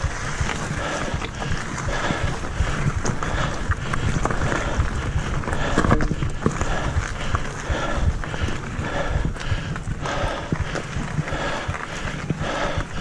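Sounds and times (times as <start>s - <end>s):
bike knocks and rattles: 0.0s - 13.0s
bike tyre rumble on rocky trail: 0.0s - 13.0s
wind buffeting microphone: 0.0s - 13.0s.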